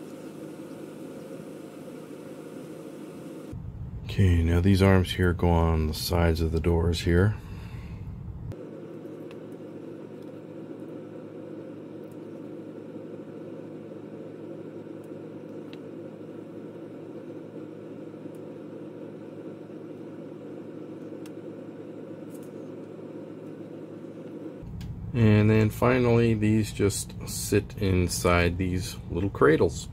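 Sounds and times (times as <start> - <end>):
low background hum: 0.0 - 29.9.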